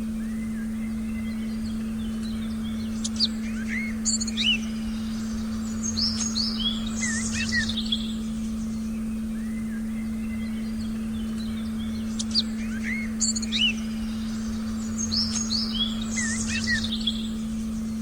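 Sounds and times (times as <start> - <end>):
steady low tone: 0.0 - 18.0
small birds chirping: 0.2 - 18.0.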